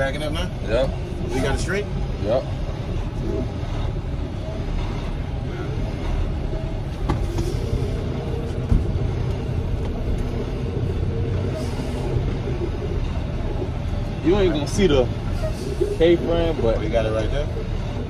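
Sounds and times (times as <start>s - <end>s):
truck diesel engine rumbling: 0.0s - 18.0s.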